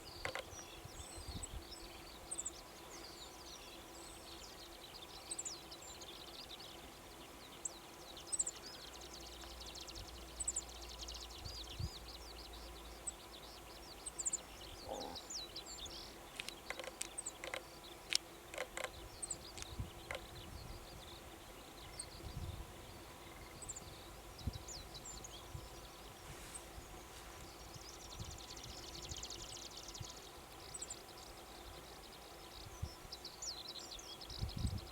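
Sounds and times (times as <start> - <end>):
distant small birds chirping: 0.0 - 34.9.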